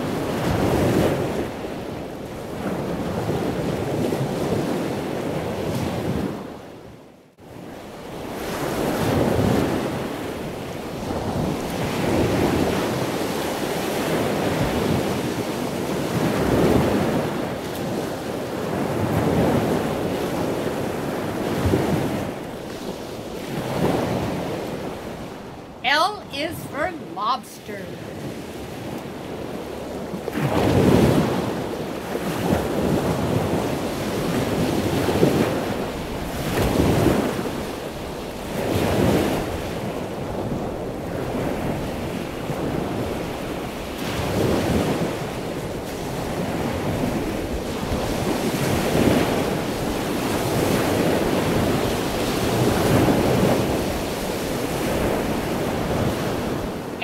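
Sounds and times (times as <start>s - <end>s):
ocean waves washing: 7.4s - 57.0s.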